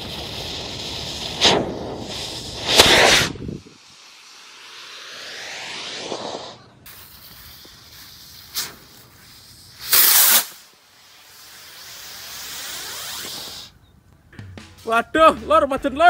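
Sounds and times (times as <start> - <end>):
firework blast: 0.0 - 13.7
firework rocket hissing: 0.0 - 13.8.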